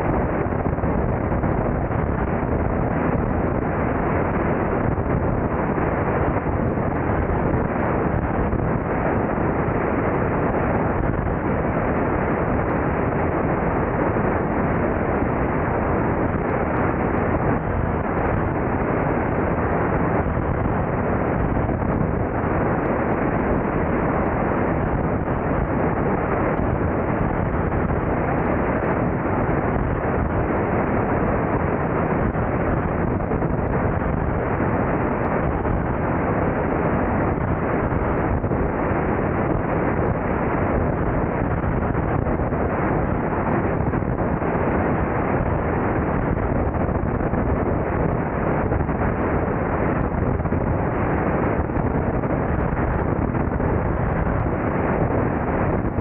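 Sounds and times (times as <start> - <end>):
plane engine and propeller drone: 0.0 - 56.0
wind buffeting microphone: 0.0 - 56.0.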